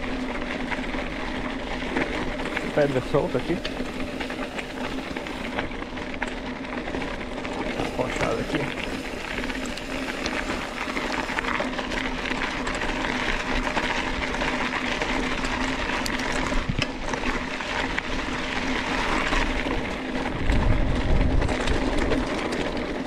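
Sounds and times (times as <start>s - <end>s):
bike tyres crunching over rocks: 0.0s - 23.0s.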